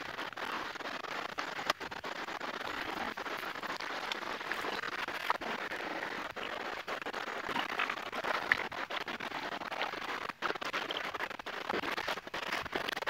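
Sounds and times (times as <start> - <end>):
grass and brush rustling: 0.0 - 13.0.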